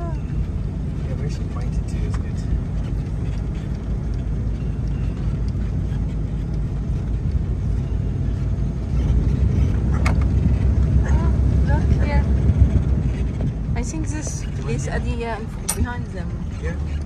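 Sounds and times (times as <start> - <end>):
vehicle rumble inside cab: 0.0 - 17.0.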